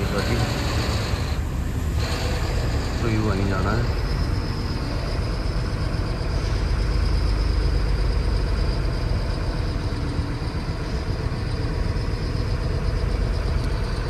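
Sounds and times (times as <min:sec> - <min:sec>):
thin high whine: 0:00.0 - 0:14.0
truck diesel engine rumble: 0:00.0 - 0:14.0.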